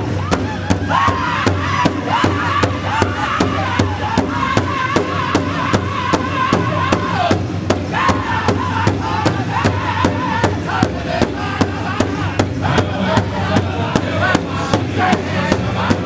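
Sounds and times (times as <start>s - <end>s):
large drum fast beat: 0.0s - 16.0s.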